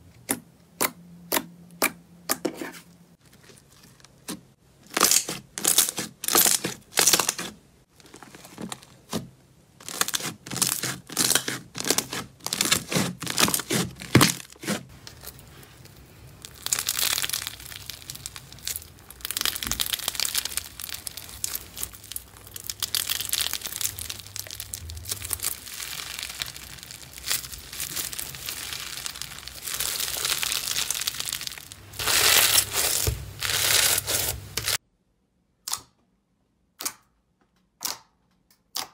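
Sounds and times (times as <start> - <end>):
crunchy slime crackling: 3.2 - 34.8.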